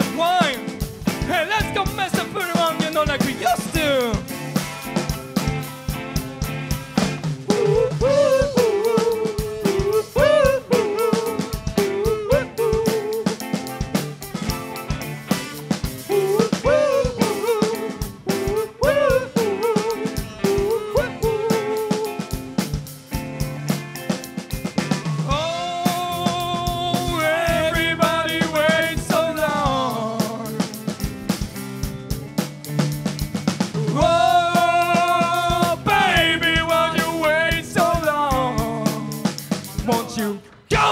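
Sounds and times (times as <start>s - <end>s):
drums: 0.0s - 40.9s
lead guitar line: 0.0s - 40.9s
rock band playing: 0.0s - 40.9s.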